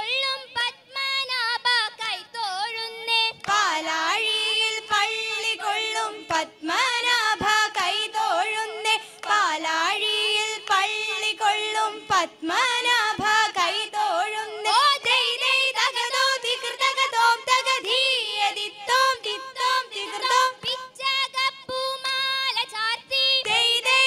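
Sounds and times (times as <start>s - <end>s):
women singing boat song: 0.0s - 24.0s.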